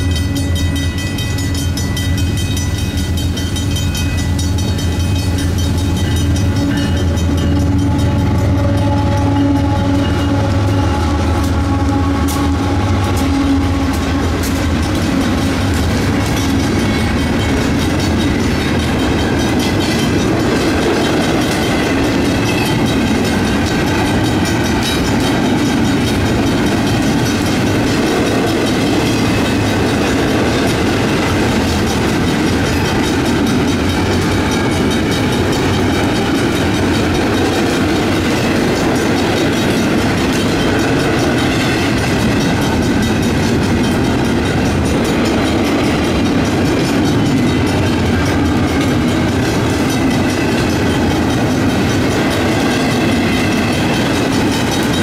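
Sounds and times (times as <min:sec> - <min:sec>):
crossing bell ringing: 0:00.0 - 0:55.0
train wheels rumbling on rails: 0:00.0 - 0:55.0
wheels clacking over rail joints: 0:00.0 - 0:55.0.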